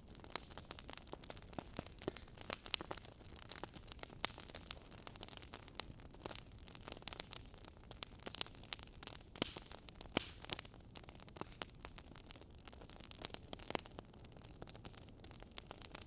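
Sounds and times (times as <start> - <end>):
soft steady hiss: 0.0 - 16.0
wood fire pops and snaps: 0.0 - 16.0.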